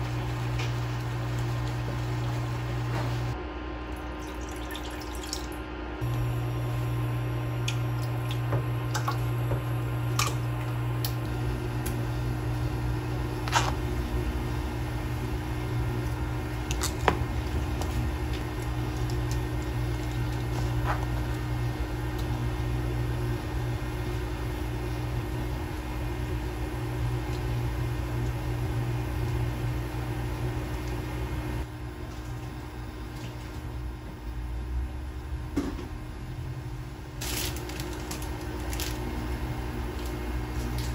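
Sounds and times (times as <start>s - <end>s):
cooktop humming: 0.0s - 40.9s.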